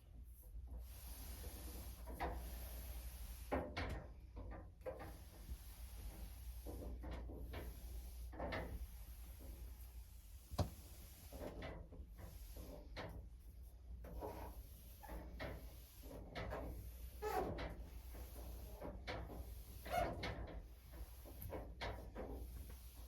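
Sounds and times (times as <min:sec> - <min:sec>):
belongings rubbing and rustling: 0:00.0 - 0:23.0.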